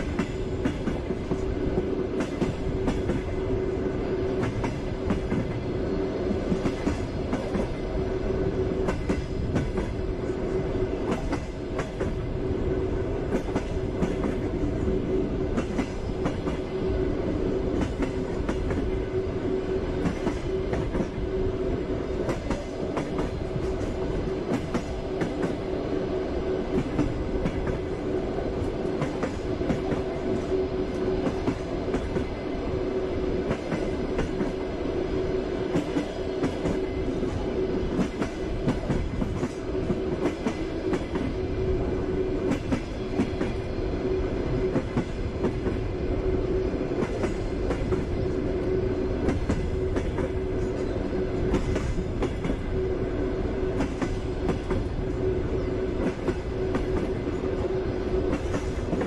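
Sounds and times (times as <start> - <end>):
train carriage rumble and hum: 0.0 - 59.0.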